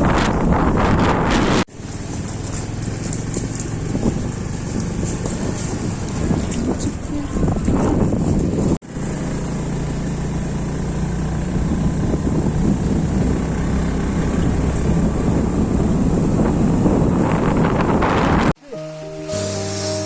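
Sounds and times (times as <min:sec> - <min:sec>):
road and wind noise: 0:00.0 - 0:20.0
vehicle engine running: 0:01.5 - 0:18.5.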